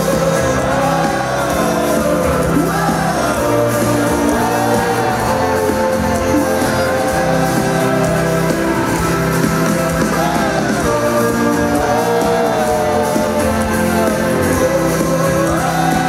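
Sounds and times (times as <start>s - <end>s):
live pop-rock band: 0.0s - 16.0s.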